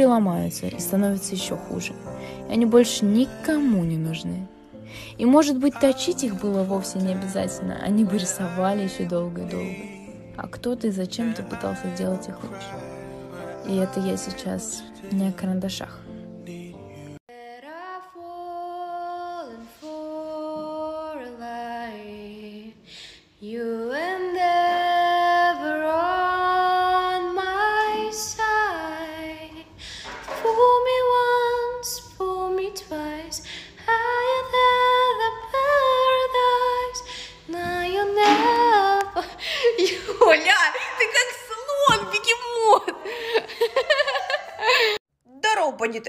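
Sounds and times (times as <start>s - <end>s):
woman singing slow melody: 0.0s - 16.1s, 16.9s - 40.2s.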